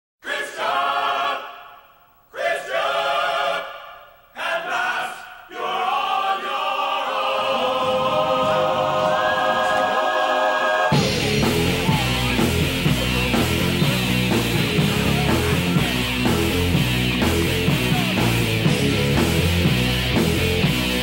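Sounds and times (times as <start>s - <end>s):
choir singing sustained chords: 0.2s - 21.0s.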